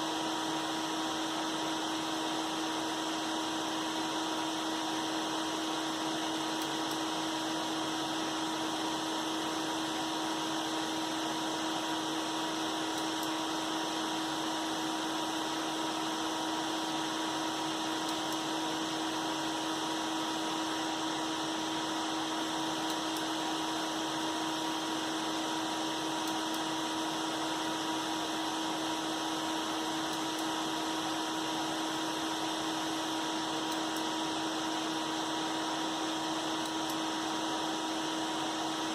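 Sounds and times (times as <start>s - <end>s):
computer fans running: 0.0s - 38.9s.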